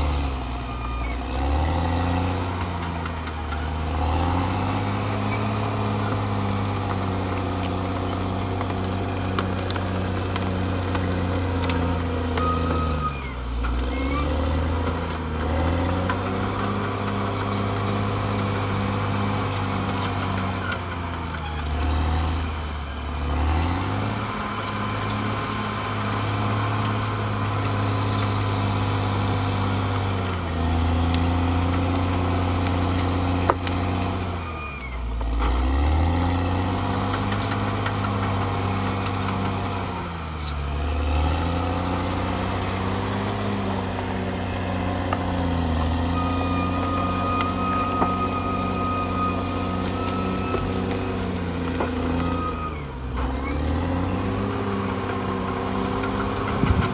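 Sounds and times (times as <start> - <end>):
bulldozer diesel engine working: 0.0 - 56.9.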